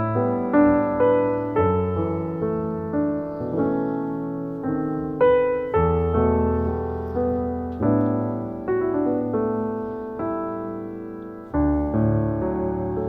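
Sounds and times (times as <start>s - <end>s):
slow soft piano piece: 0.0s - 13.0s.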